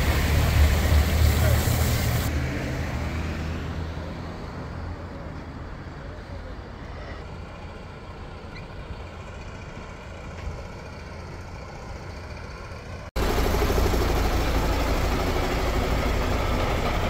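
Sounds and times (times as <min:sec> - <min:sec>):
heavy vehicle engines idling: 0:00.0 - 0:17.0.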